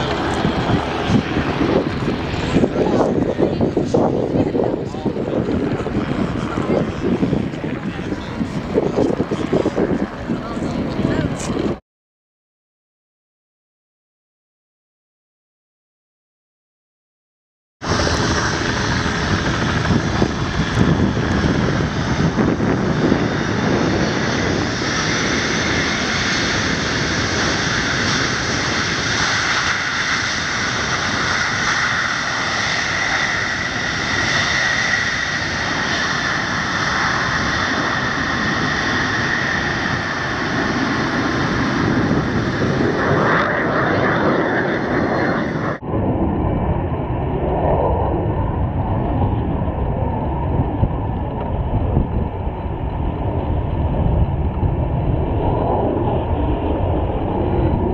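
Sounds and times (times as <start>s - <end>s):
jet engines roaring: 0.0s - 11.8s, 17.8s - 57.9s.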